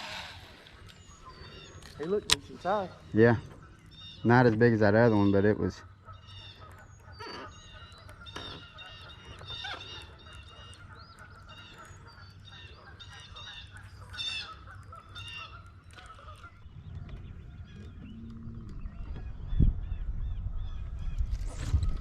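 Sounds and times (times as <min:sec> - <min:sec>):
flock of birds calling: 0:00.0 - 0:20.6.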